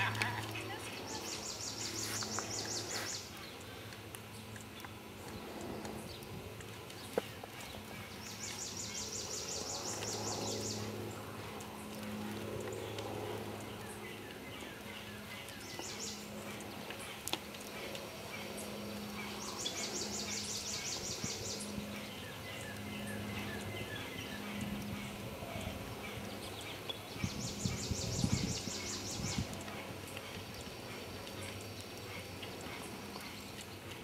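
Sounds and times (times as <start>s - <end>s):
songbirds singing: 0.0s - 34.0s
steady low hum: 0.0s - 34.0s.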